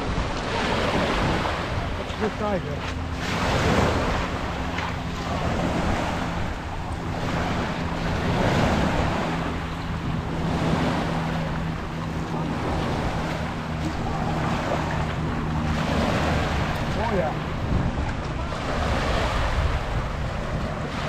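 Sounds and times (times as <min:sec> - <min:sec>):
steady low hum: 0:00.0 - 0:21.0
wind on microphone: 0:00.0 - 0:21.0.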